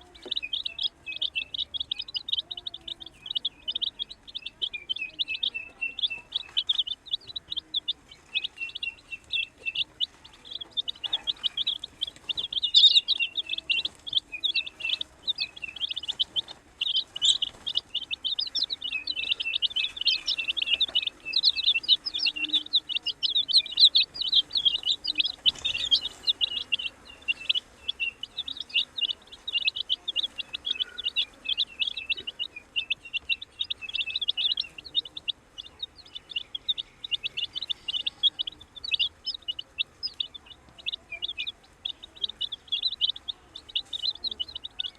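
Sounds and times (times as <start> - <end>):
baby chicks peeping: 0.0 - 44.9.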